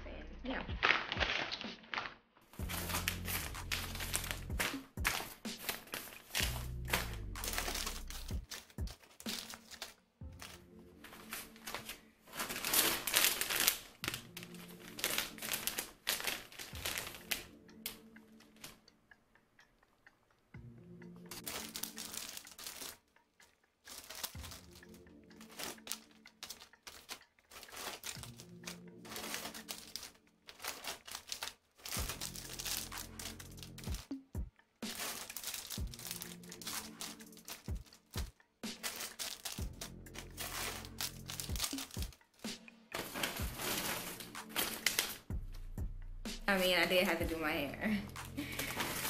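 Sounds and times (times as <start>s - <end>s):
soft background music: 0.0s - 49.0s
plastic bags crinkling: 0.8s - 17.5s, 21.3s - 45.3s, 48.1s - 49.0s.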